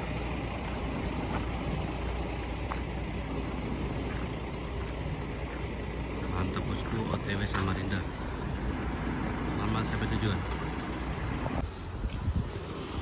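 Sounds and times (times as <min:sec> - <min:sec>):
road noise: 0:00.0 - 0:13.0
truck diesel engine under load: 0:00.0 - 0:13.0.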